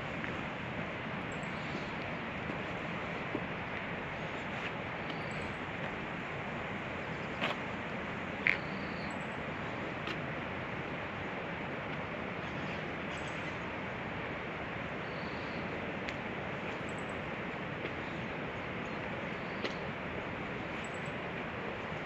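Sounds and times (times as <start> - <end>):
rushing hiss background noise: 0.0 - 22.0.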